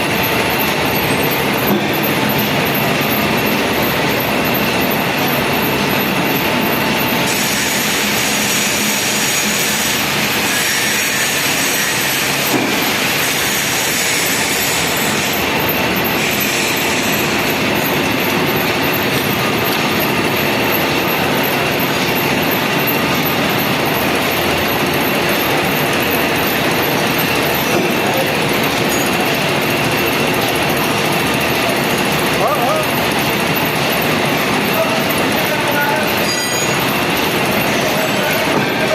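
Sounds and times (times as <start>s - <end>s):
heavy workshop machinery running: 0.0s - 38.9s.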